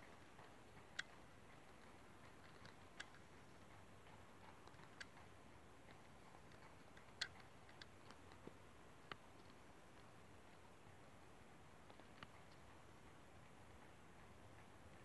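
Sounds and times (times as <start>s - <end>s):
soft sharp clicks: 0.0s - 15.0s.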